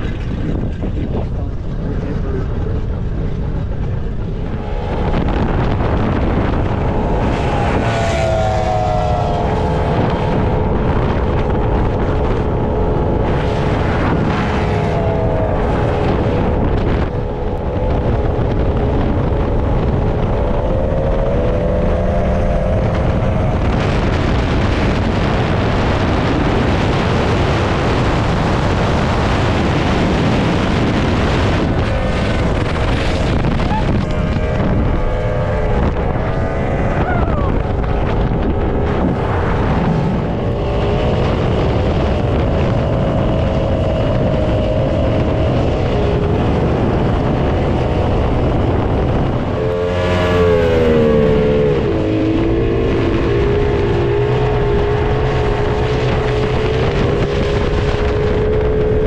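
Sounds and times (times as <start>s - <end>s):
speedboat engines whining: 0.0s - 59.0s
wind buffeting microphone: 0.0s - 59.0s.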